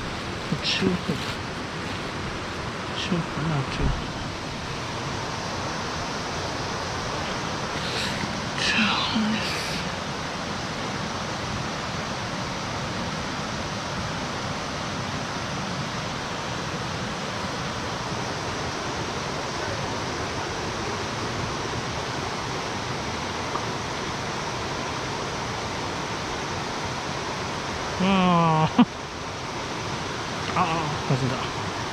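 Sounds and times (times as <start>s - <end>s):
stream running water: 0.0s - 31.9s.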